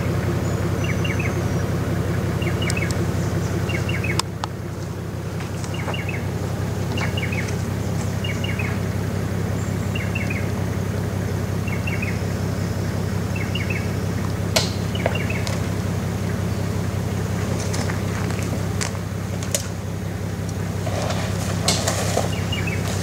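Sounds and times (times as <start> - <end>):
bird chirping: 0.0 - 1.7, 2.3 - 10.6, 11.6 - 19.2, 22.2 - 23.0
car engine droning: 0.0 - 23.0.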